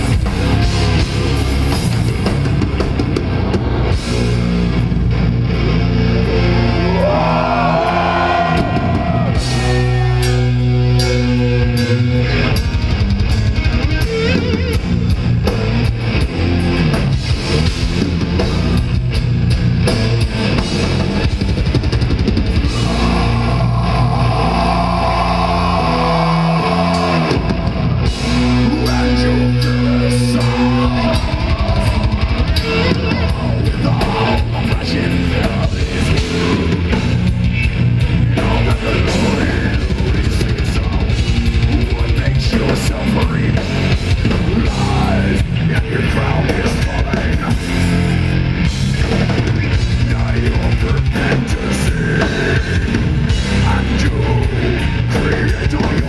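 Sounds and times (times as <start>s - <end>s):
bass: 0.0s - 56.0s
distorted electric guitars: 0.0s - 56.0s
drum kit: 0.0s - 56.0s.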